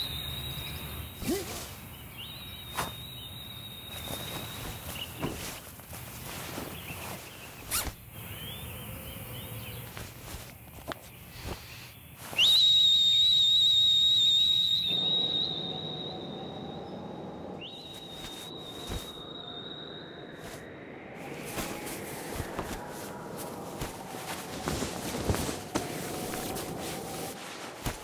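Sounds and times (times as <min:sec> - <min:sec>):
high steady whistle tone: 0:00.0 - 0:05.6, 0:07.7 - 0:09.2, 0:11.5 - 0:27.4.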